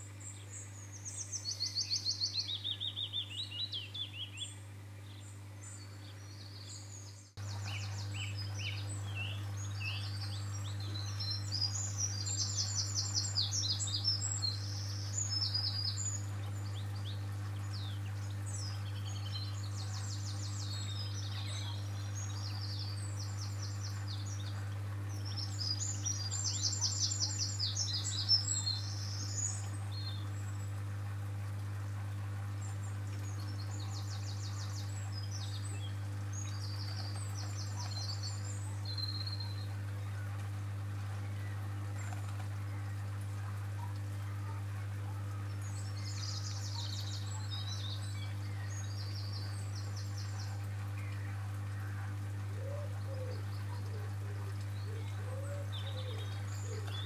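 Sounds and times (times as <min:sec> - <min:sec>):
songbirds singing in trills: 0:00.0 - 0:57.0
steady low hum: 0:00.0 - 0:57.0.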